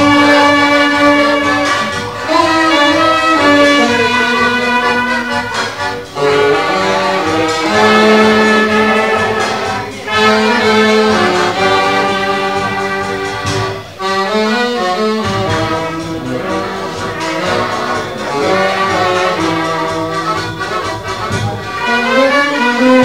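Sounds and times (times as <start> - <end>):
accordion: 0.0 - 23.0
brass: 0.0 - 23.0
folk band playing a tango: 0.0 - 23.0.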